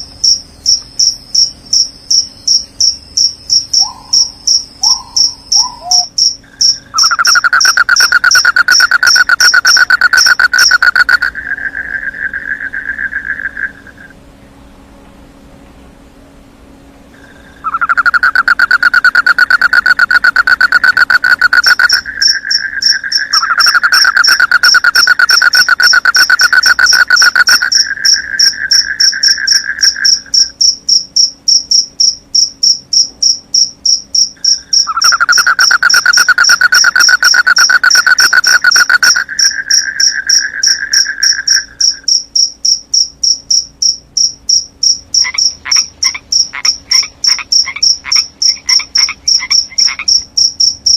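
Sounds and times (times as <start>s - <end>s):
cricket buzzing trill: 0.0s - 14.2s, 17.1s - 50.9s
high pulsed cricket chirping: 0.0s - 14.2s, 17.1s - 50.9s.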